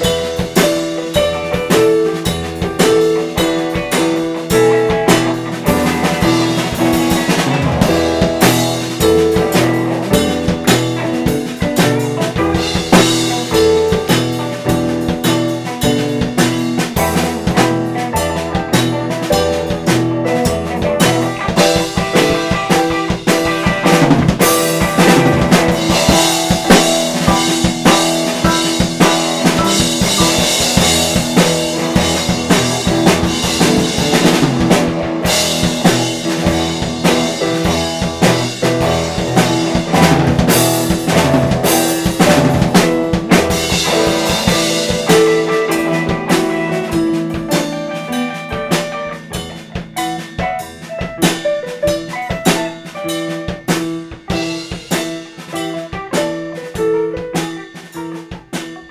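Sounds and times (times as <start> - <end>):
band music: 0.0 - 58.9
drum kit beat: 0.0 - 58.9.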